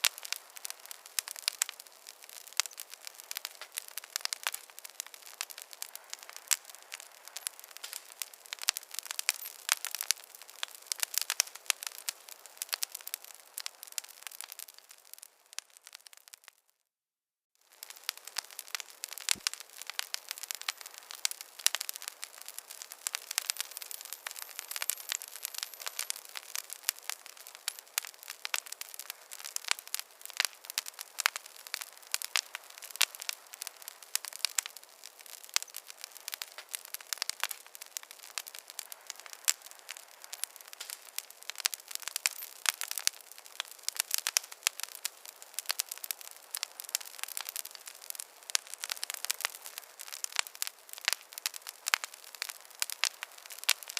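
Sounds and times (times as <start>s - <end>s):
wood fire crackling and popping: 0.0s - 16.6s, 17.7s - 53.9s.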